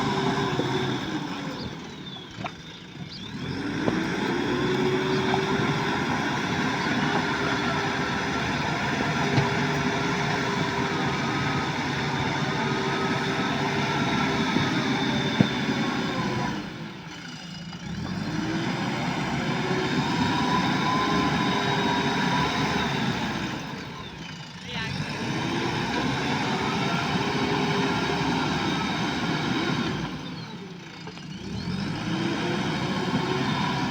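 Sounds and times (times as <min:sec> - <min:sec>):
diesel engine running at high revs: 0:00.0 - 0:33.9.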